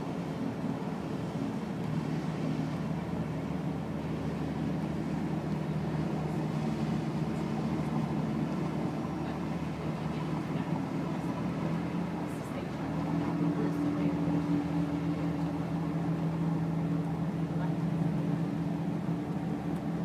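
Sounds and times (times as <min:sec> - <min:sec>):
boat engines droning: 0:00.0 - 0:20.0.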